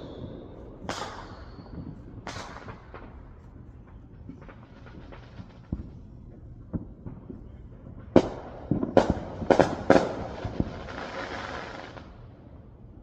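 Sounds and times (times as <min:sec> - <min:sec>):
loud firework bangs: 0:00.0 - 0:03.3, 0:04.2 - 0:12.2
faint firework pops: 0:00.0 - 0:12.1
firework crackling: 0:00.0 - 0:12.3.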